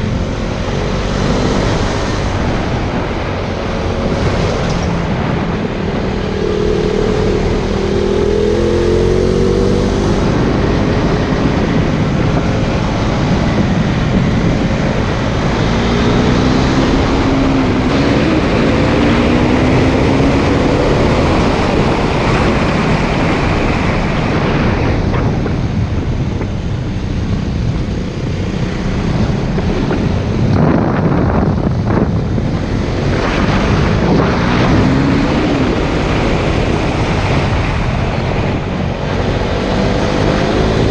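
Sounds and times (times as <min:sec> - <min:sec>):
motorcycle engine revving: 0:00.0 - 0:40.9
wind noise on microphone: 0:00.0 - 0:40.9.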